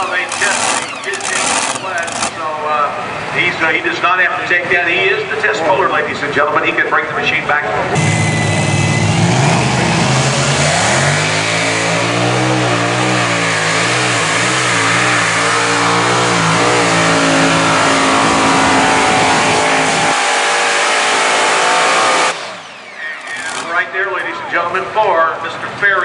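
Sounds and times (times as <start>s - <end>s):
pulling tractor engine at full throttle: 0.0s - 4.5s, 7.8s - 25.8s.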